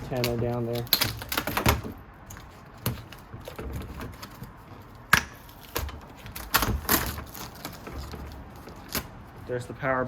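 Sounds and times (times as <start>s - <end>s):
hardware clicks and knocks: 0.0s - 9.1s.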